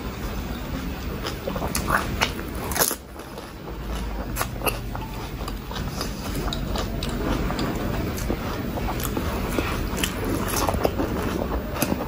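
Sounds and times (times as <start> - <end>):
wet chewing: 1.0 - 12.0.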